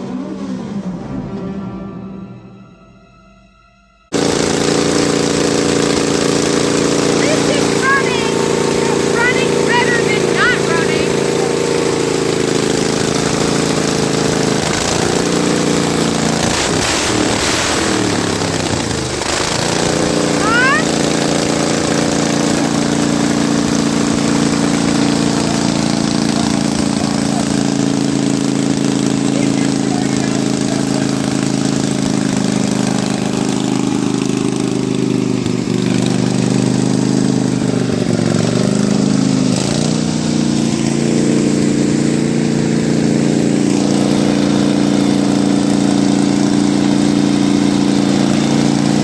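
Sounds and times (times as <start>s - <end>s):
lawn mower engine running: 4.1s - 49.0s.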